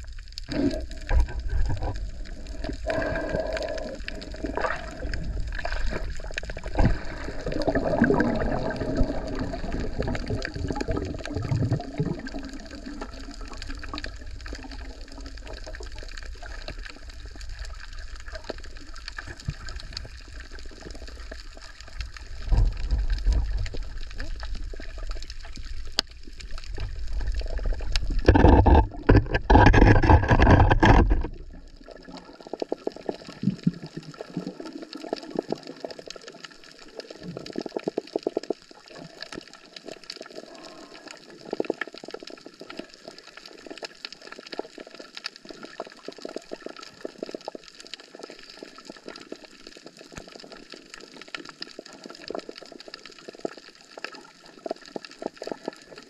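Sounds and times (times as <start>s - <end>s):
crackle of clicks and bubbles: 0.0s - 56.0s
water splashing and gurgling: 0.0s - 56.0s.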